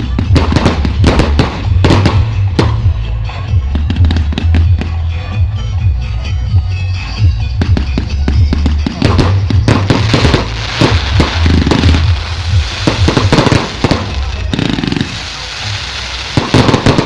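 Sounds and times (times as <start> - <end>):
fireworks bangs and crackles: 0.0 - 5.4, 7.5 - 17.0.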